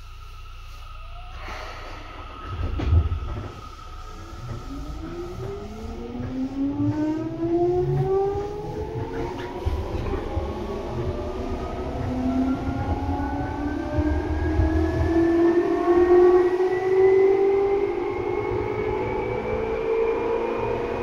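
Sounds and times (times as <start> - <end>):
train motor whine: 0.0 - 20.2
wheels rumbling on track: 1.4 - 21.0.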